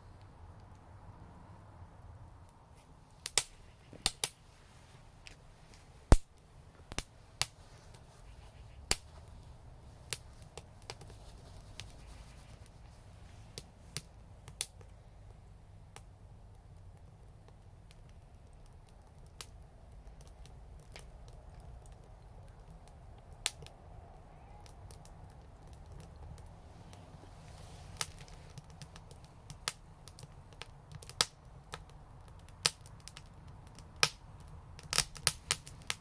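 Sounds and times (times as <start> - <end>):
low steady rumble: 0.0 - 36.0
wood fire crackling: 0.0 - 36.0.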